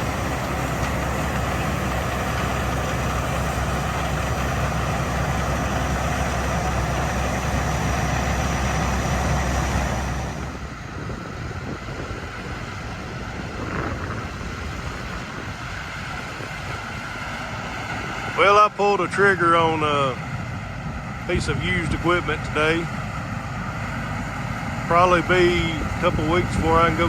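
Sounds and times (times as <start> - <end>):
diesel machinery rumbling: 0.0 - 27.0.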